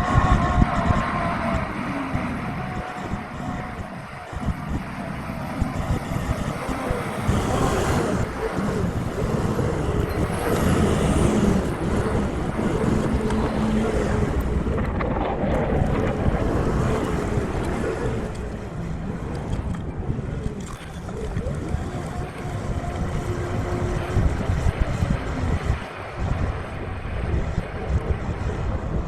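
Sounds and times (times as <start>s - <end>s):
tractor engine rumbling: 0.0s - 25.3s.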